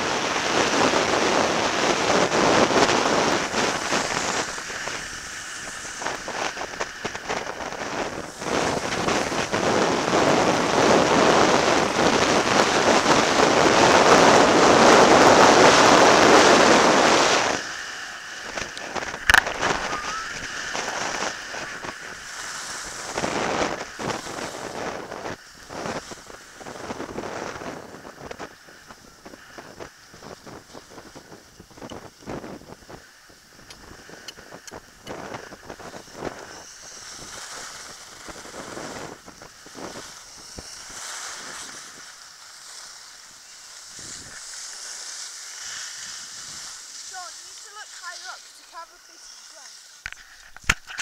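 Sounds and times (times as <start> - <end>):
steady hiss: 0.0 - 51.0
wind on microphone: 0.0 - 51.0.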